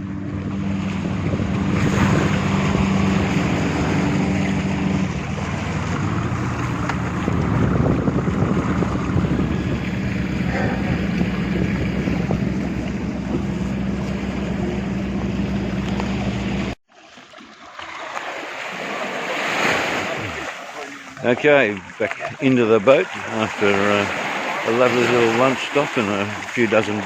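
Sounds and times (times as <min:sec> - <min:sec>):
motorboat engine running: 0:00.0 - 0:27.0
wind and water rushing: 0:00.0 - 0:27.0.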